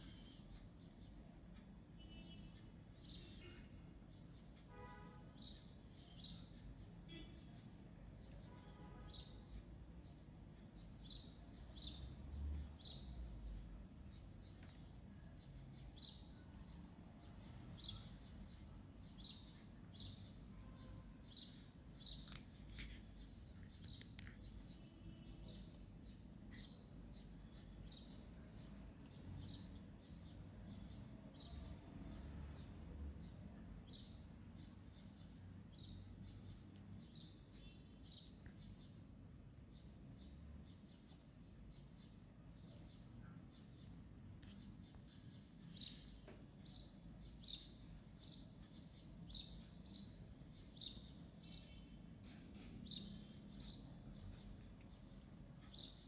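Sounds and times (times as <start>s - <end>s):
bird chirping: 0.0s - 31.8s, 33.2s - 56.0s.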